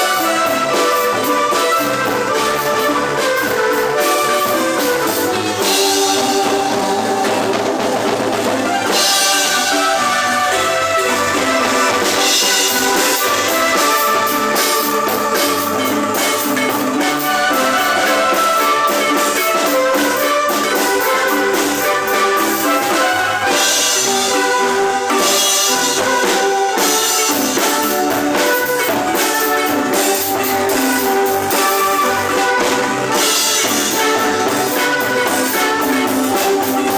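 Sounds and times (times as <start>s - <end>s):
drum accompaniment: 0.0s - 36.9s
marimba ensemble playing: 0.0s - 36.9s.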